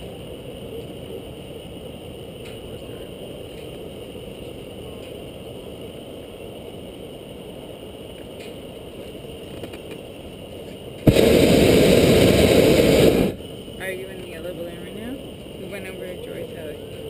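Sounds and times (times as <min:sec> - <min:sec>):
propane burner firing: 0:00.0 - 0:17.0.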